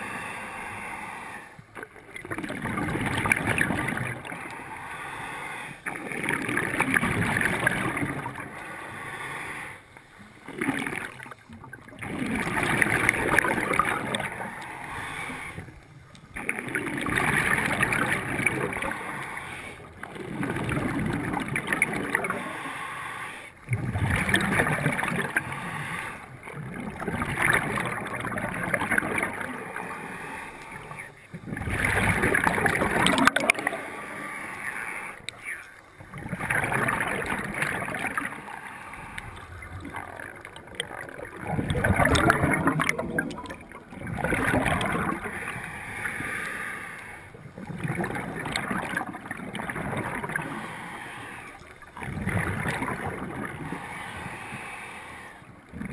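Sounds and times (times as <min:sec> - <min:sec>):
diver breathing underwater: 0:00.0 - 0:02.7, 0:03.3 - 0:11.4, 0:12.0 - 0:55.9
bubbling: 0:01.6 - 0:04.8, 0:05.8 - 0:08.8, 0:10.2 - 0:22.6, 0:23.6 - 0:34.0, 0:35.1 - 0:54.3, 0:55.6 - 0:55.9.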